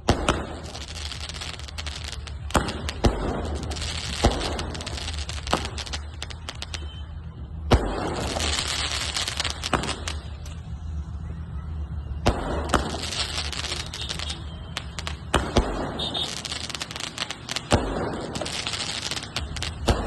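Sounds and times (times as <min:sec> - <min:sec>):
fireworks bangs: 0:00.0 - 0:07.0, 0:07.6 - 0:10.7, 0:12.2 - 0:20.0
fireworks crackling: 0:00.0 - 0:07.1, 0:07.7 - 0:10.8, 0:12.2 - 0:20.0.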